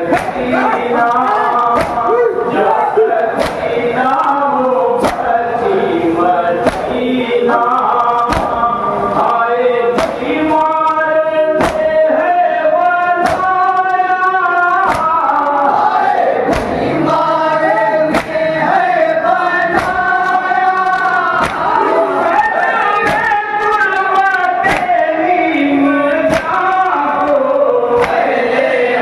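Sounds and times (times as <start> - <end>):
men chanting over a loudspeaker: 0.0 - 29.0.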